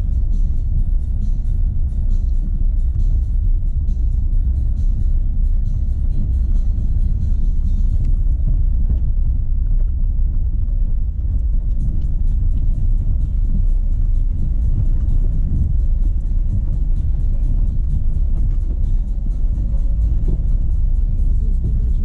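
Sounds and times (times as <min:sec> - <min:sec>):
tyres rumbling on dirt road: 0:00.0 - 0:22.0.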